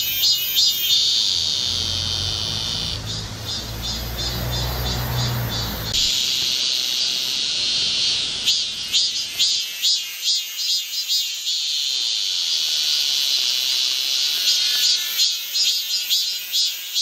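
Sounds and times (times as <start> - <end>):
cicadas chorus: 0.0 - 17.0.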